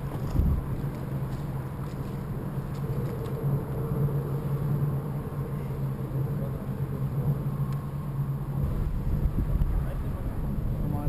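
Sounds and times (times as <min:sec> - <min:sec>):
low rumble of bridge traffic: 0:00.0 - 0:11.0.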